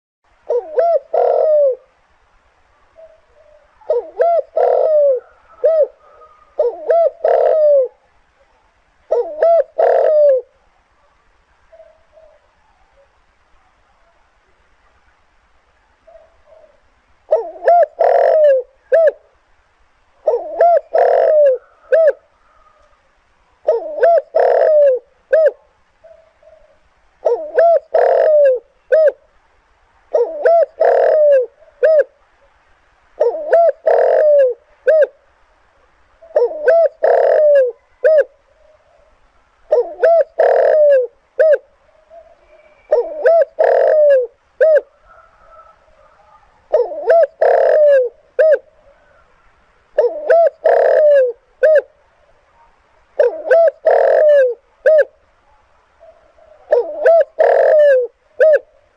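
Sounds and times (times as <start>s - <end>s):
dove cooing: 0.3s - 2.0s, 2.7s - 10.6s, 11.7s - 13.2s, 15.9s - 19.4s, 20.2s - 29.4s, 30.1s - 32.2s, 33.2s - 35.2s, 36.2s - 58.9s.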